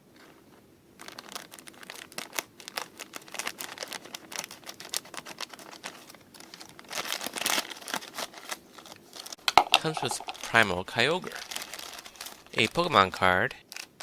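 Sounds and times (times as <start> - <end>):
plastic bag tearing open: 1.0 - 12.8, 13.6 - 14.0
plastic packaging crinkling: 1.0 - 12.9, 13.6 - 14.0.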